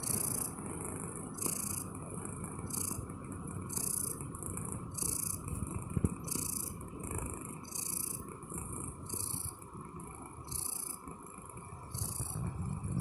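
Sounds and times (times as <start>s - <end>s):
cat snoring: 0.0s - 13.0s.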